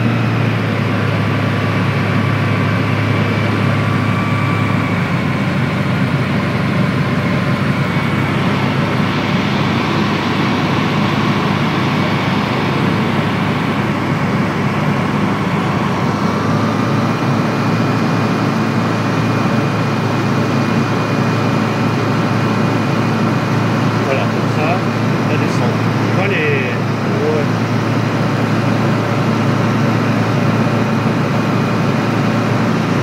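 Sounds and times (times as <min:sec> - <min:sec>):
propeller aircraft engine droning: 0:00.0 - 0:33.0.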